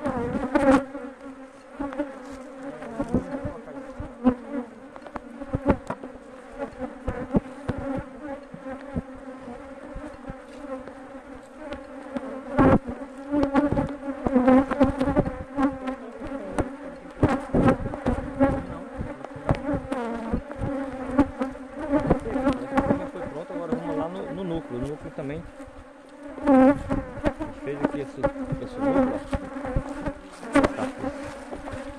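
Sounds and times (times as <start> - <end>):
honeybees buzzing: 0.0 - 31.9.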